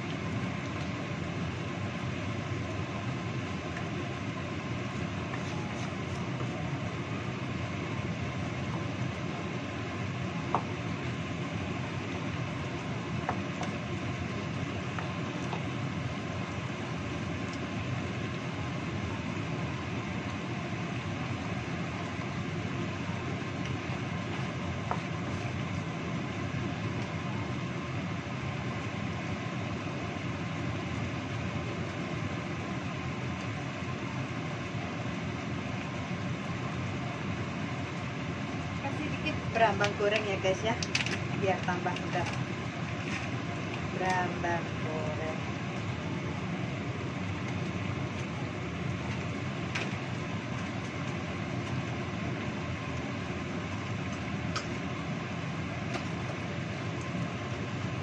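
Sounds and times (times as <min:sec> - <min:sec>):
sauce simmering in a wok: 0:00.0 - 0:39.6, 0:42.2 - 0:43.9, 0:45.4 - 0:58.0
gas stove burner rumbling: 0:00.0 - 0:58.0.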